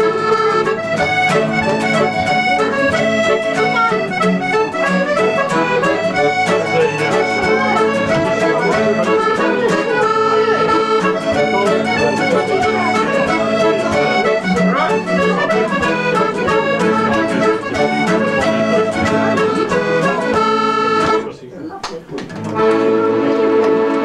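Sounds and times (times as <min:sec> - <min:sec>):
piano accordion playing a tune: 0:00.0 - 0:21.3, 0:22.4 - 0:24.0.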